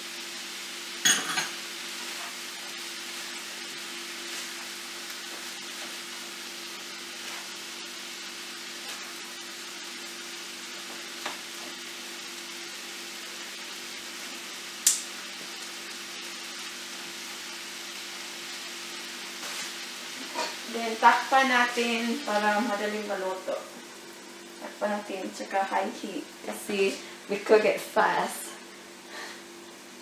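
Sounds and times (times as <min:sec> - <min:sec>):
food sizzling in a skillet: 0:00.0 - 0:30.0.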